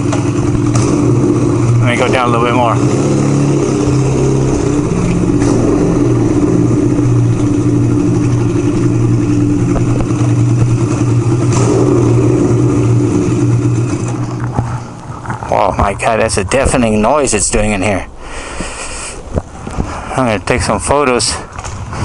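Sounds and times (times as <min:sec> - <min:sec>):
motorcycle engine idling echoing: 0:00.0 - 0:20.2.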